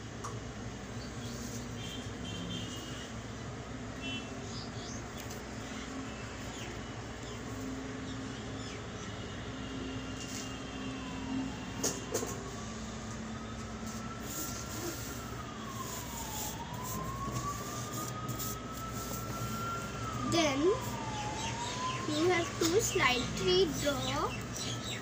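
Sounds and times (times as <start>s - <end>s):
emergency vehicle siren wailing: 4.0s - 25.0s.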